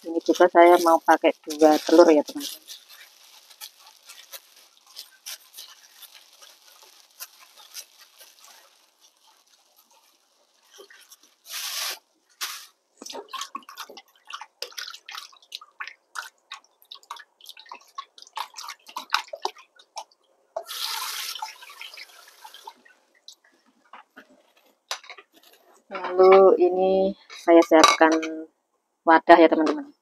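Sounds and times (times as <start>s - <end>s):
water splashing and dripping: 0.0s - 24.3s.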